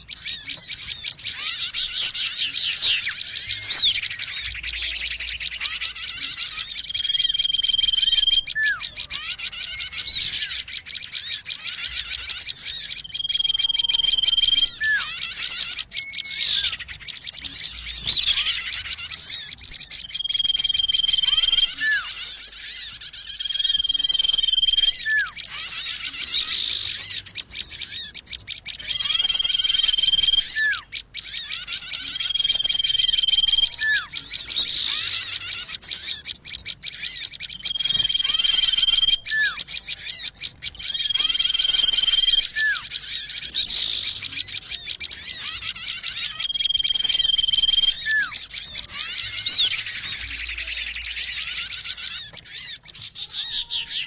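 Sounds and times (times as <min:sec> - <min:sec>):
short falling bird calls: 0:00.0 - 0:54.0
small birds chirping: 0:00.0 - 0:54.0.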